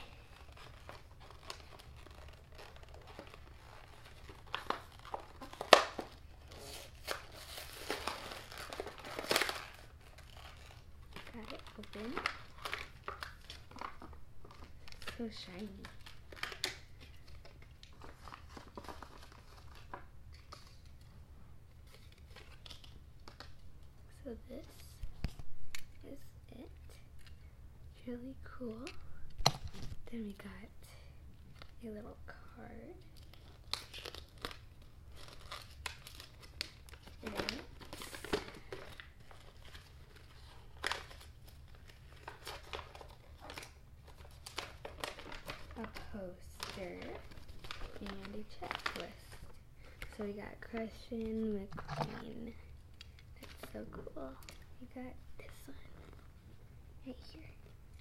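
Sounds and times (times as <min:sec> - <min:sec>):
packaging crinkling: 0:00.0 - 0:21.1, 0:21.8 - 0:23.7, 0:33.0 - 0:58.0.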